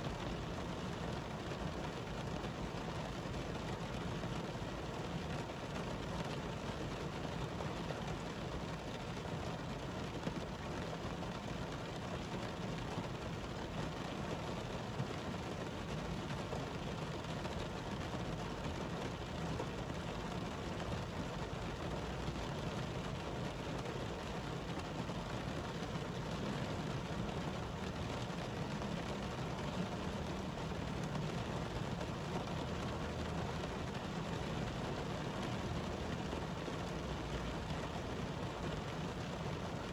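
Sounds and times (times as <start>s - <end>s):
heavy rain on pavement: 0.0s - 39.9s.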